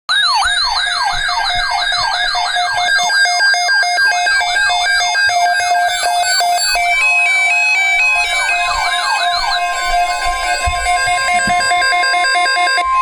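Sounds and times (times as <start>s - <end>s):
steady high electronic tones: 0.6s - 13.0s.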